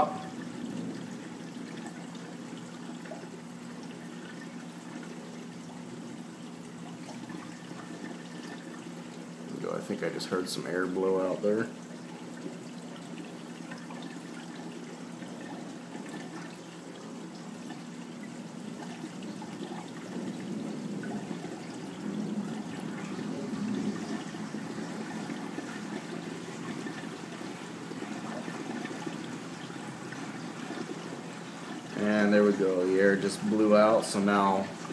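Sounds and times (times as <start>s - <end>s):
water gurgling down drain pipes: 0.0s - 34.9s.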